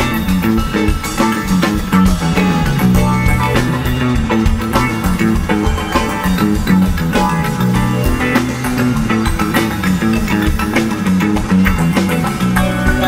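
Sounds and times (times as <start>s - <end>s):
drum kit: 0.0s - 13.0s
electric bass: 0.0s - 13.0s
electric guitar: 0.0s - 13.0s.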